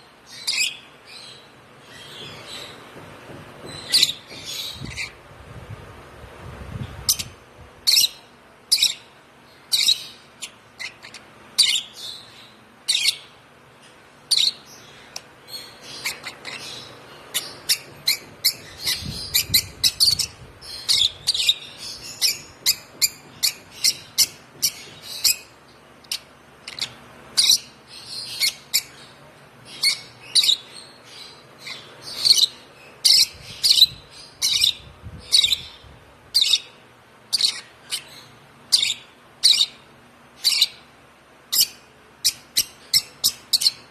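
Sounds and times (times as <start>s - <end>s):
bird chick chirping: 3.6s - 5.2s, 6.7s - 40.9s.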